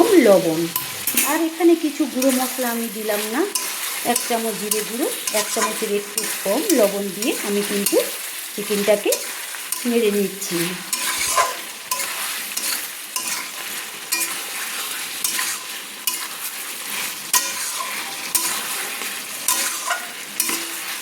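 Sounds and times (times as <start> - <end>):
chicken sizzling in a pan: 0.0 - 21.0
spatula scraping a pan: 2.2 - 10.1, 10.8 - 21.0.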